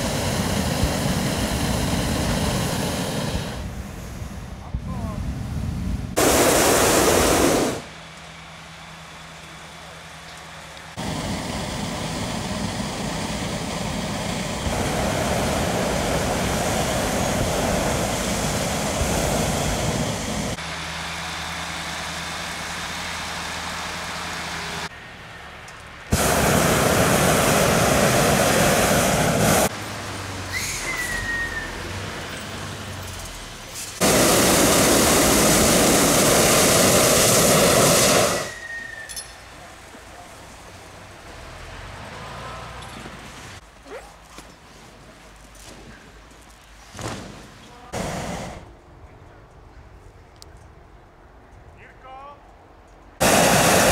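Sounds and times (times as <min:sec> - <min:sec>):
propane burners firing: 0:00.0 - 0:43.7, 0:44.6 - 0:51.0, 0:53.2 - 0:53.9.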